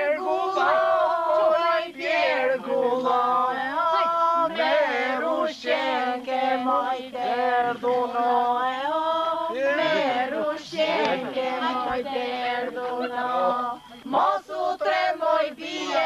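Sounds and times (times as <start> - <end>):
group singing folk song: 0.0 - 16.0.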